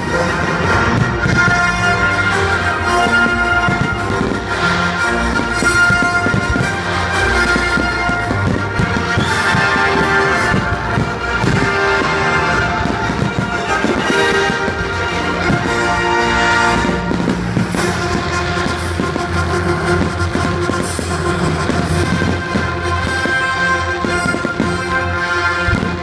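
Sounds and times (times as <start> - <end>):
fireworks bangs and crackle: 0.0 - 26.0
orchestral music with brass: 0.0 - 26.0.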